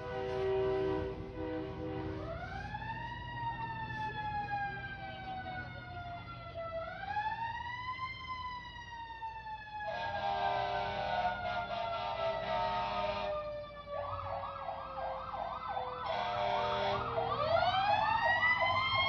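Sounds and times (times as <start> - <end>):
emergency vehicle siren wailing: 0.0 - 19.0.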